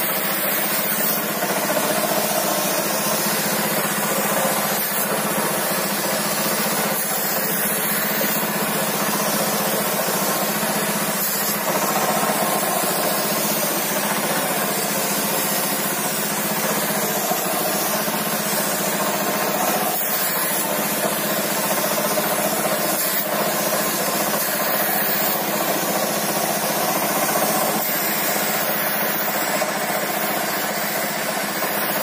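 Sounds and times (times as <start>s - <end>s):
air compressor humming: 0.0s - 32.0s
spray gun hissing: 0.0s - 32.0s.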